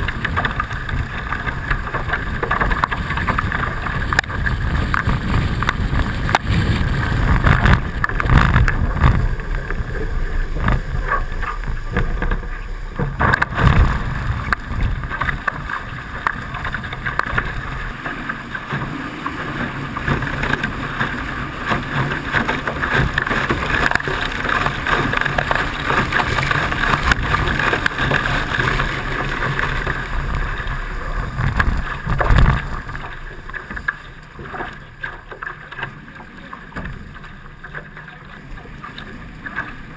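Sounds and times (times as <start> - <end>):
wind buffeting microphone: 0.0 - 34.9
water slapping against hulls: 0.0 - 39.9
water splashes: 0.0 - 39.9.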